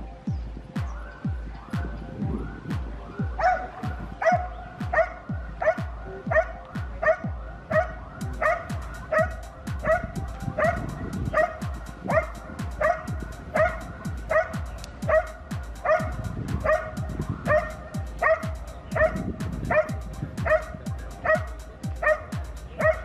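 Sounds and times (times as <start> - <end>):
dog barking: 3.4 - 23.0.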